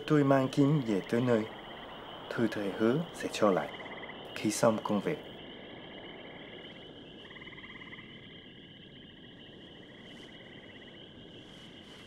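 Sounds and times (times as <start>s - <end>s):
animal chorus of pulsing trills: 0.0s - 12.0s.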